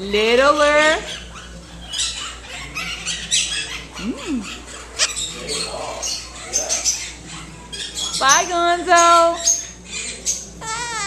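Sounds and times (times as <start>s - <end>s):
parrot squeak: 0.6s - 11.0s.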